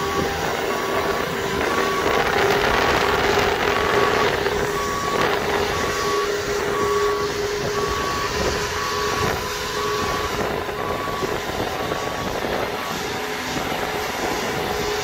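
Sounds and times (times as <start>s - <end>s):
engine running: 0.0s - 15.0s
warning alarm beeping: 0.1s - 14.9s.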